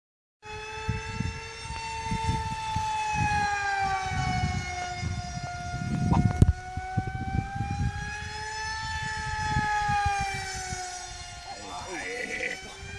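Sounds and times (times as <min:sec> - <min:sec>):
model jet motor whining overhead: 0:00.4 - 0:12.9
wind rumbling on microphone: 0:00.5 - 0:12.9.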